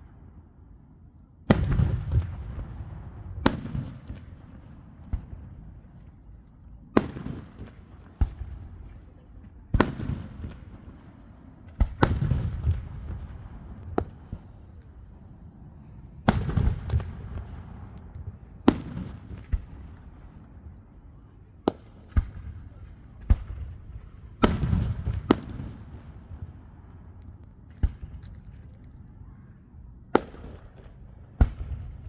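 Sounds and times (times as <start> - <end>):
fireworks exploding: 1.5 - 6.0, 6.9 - 29.0, 30.1 - 32.0.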